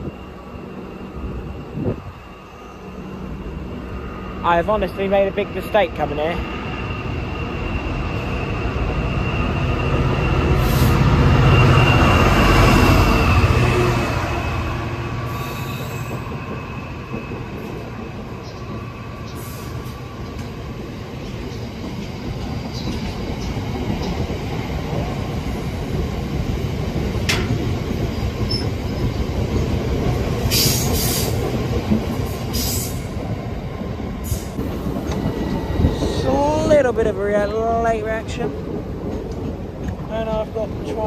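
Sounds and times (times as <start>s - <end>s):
locomotive passing: 0.0s - 41.0s
train wheels rumbling: 0.0s - 41.0s.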